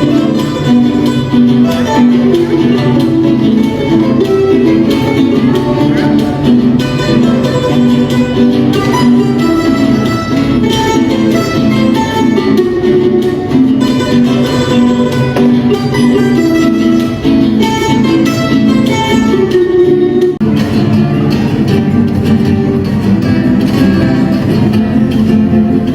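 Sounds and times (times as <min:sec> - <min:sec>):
live folk music on plucked strings: 0:00.0 - 0:25.9.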